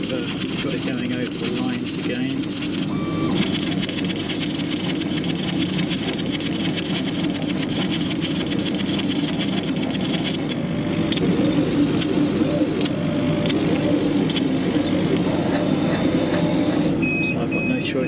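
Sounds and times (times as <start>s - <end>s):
fine rapid ticking: 0.0s - 17.0s
laser cutter fan hum: 0.0s - 18.0s
stepper motors whining: 0.0s - 18.0s.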